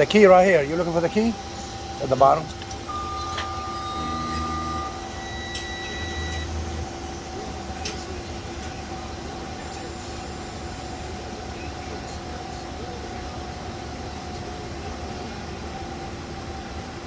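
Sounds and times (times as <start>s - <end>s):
constant whine: 0.0s - 17.0s
diesel engine idling: 0.0s - 17.0s.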